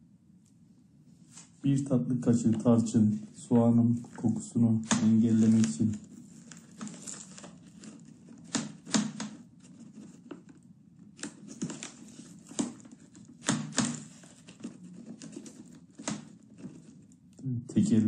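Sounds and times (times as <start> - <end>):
crinkling rustles: 2.4 - 17.5.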